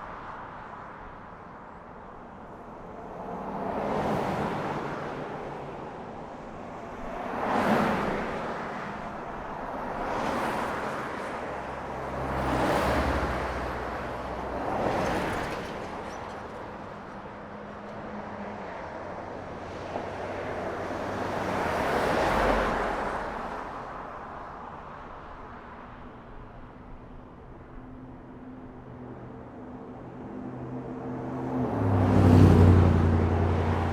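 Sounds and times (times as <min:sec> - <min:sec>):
cars passing: 0:02.2 - 0:33.9.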